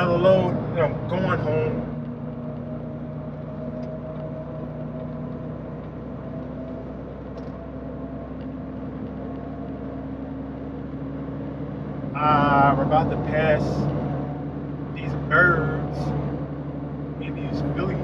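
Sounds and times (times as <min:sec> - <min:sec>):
diesel truck engine drone: 0:00.0 - 0:18.0
road noise: 0:00.0 - 0:18.0.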